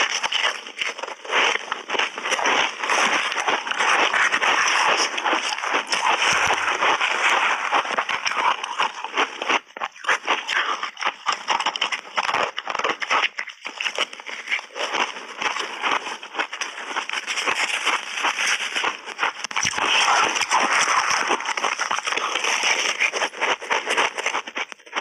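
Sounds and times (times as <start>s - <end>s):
person crunching ice: 0.0s - 25.0s.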